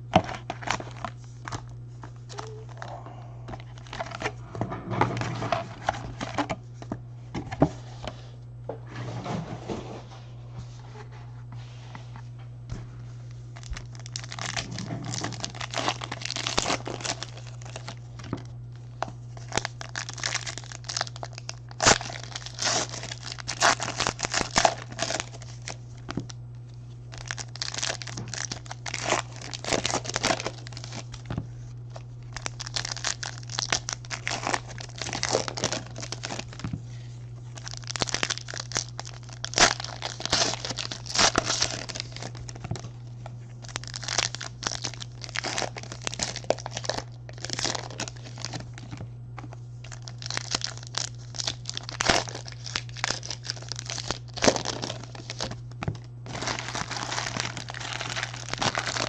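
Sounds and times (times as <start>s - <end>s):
foil wrappers tearing and crinkling: 0.0s - 4.4s, 13.3s - 26.4s, 27.1s - 59.0s
low electrical hum: 0.0s - 59.0s.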